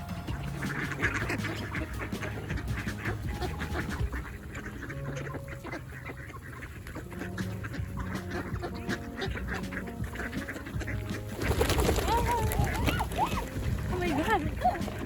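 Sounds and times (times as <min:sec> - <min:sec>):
ducks quacking: 0:00.0 - 0:15.0
geese honking: 0:00.0 - 0:15.0.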